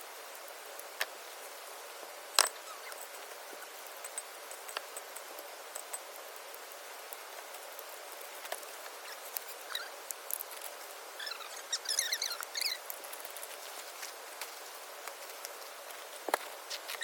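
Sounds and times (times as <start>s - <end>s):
steady high hiss: 0.0s - 17.0s
small clicks and ticks: 0.3s - 1.2s, 2.3s - 17.0s.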